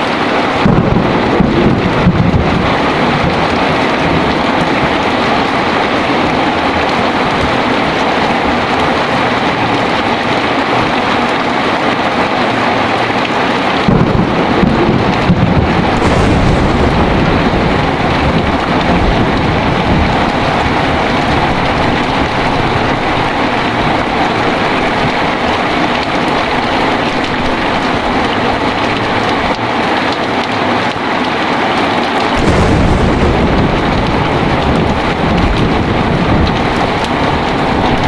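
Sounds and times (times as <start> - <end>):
heavy rain falling: 0.0 - 38.0
thunder cracks and rumble: 0.5 - 11.6, 12.4 - 30.3, 32.3 - 38.0.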